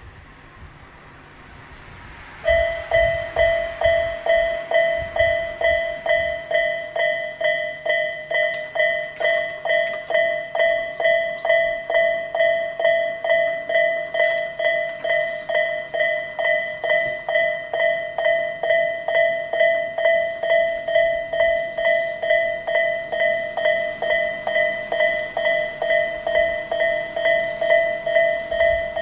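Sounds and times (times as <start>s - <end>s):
level crossing warning bell: 2.4s - 29.0s.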